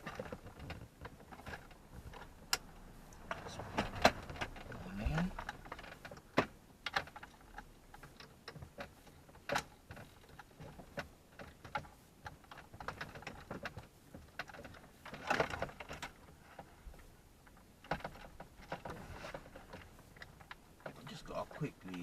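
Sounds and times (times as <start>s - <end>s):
plastic parts clicking and tapping: 0.0s - 22.0s
plastic scraping rustle: 0.0s - 22.0s.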